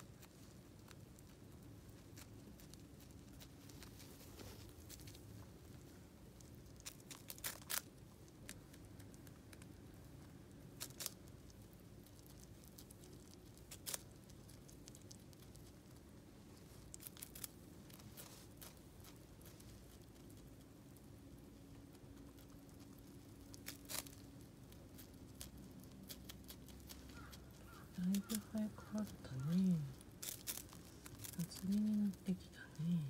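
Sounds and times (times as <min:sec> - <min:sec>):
squirrel crunching broccoli: 0:00.0 - 0:33.0.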